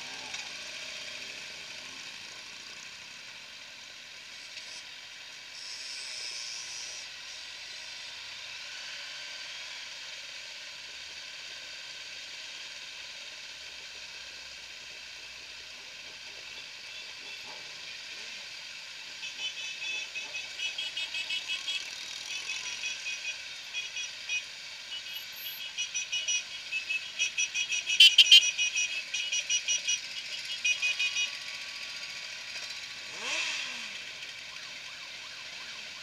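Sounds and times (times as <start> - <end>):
motorcycles on wet road hissing: 0.0 - 36.0.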